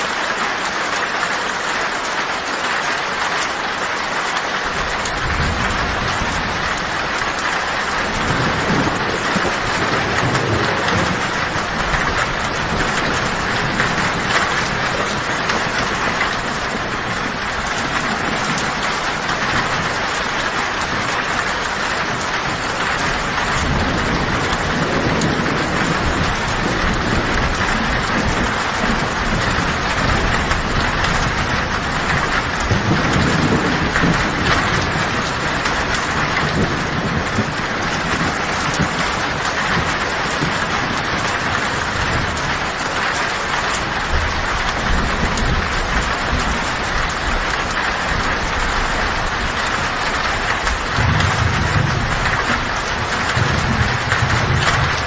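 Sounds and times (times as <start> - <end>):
heavy rain on a tin roof: 0.0 - 55.0
distant thunder rumbling: 4.8 - 55.0.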